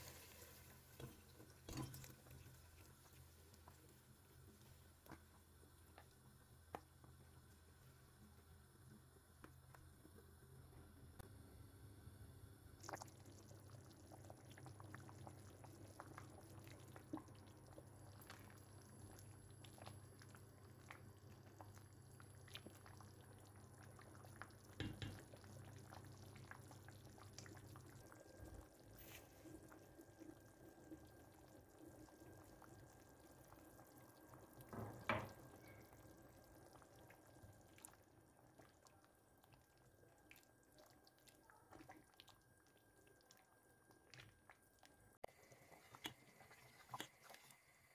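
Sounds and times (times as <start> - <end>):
sauce bubbling and popping: 0.0 - 11.3, 12.7 - 47.9.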